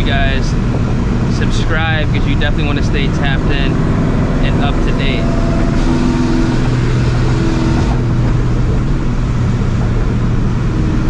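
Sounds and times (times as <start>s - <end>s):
car engine cruising: 0.0s - 11.0s
exhaust drone inside car: 0.0s - 11.0s.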